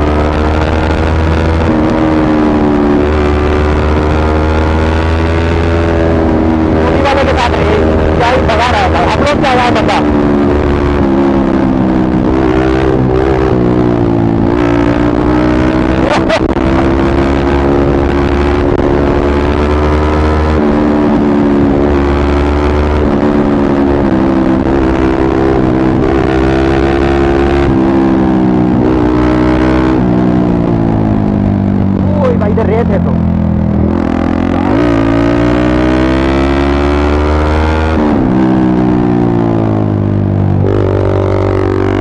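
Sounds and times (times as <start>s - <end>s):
motorcycle engine cruising: 0.0s - 42.0s.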